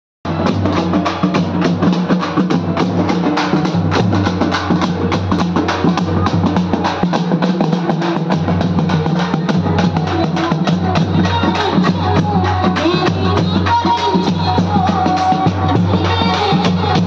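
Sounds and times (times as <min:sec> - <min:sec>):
frame drums played fast: 0:00.2 - 0:17.0.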